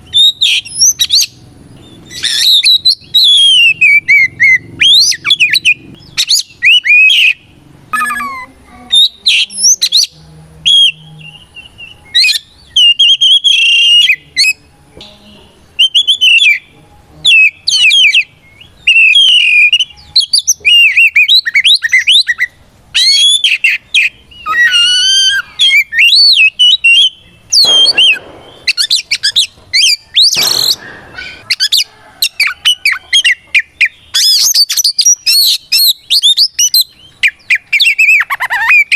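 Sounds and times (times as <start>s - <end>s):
bird singing: 0.0s - 38.9s
harsh raspy bird notes: 0.0s - 38.9s.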